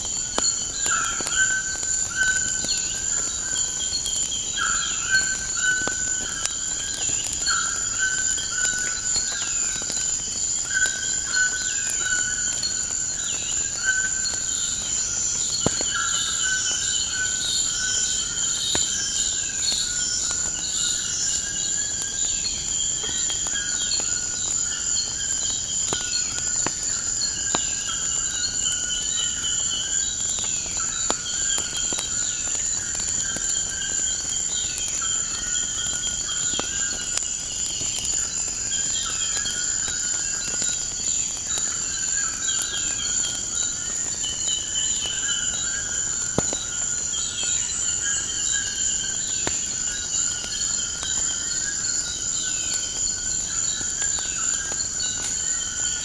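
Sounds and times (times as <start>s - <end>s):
crickets trilling: 0.0s - 56.0s
wood fire crackling: 0.0s - 56.0s.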